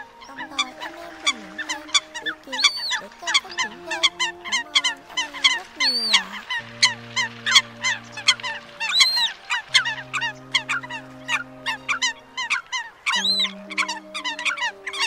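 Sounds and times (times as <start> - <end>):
coots calling: 0.0 - 15.0
steady low tones: 0.0 - 15.0.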